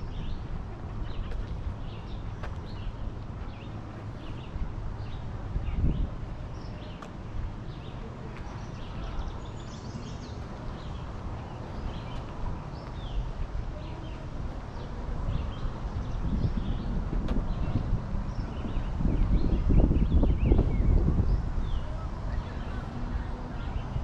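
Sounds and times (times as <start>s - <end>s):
small birds chirping: 0.0s - 24.0s
wind rumble on microphone: 0.0s - 24.0s.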